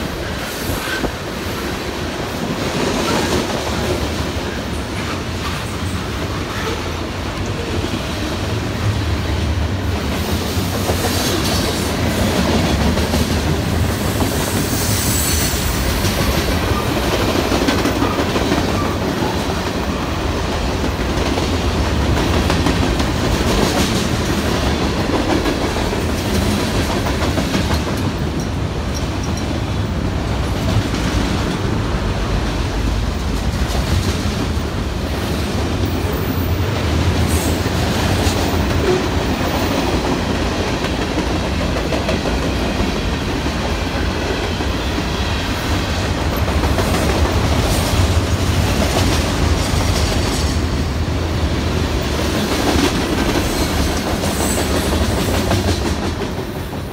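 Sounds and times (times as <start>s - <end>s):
freight train wheels clattering: 0.0s - 56.9s.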